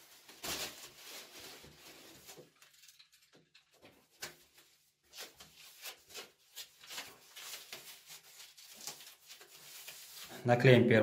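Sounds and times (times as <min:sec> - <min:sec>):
foam sheet rustling and rubbing: 0:00.0 - 0:03.3, 0:04.0 - 0:10.4.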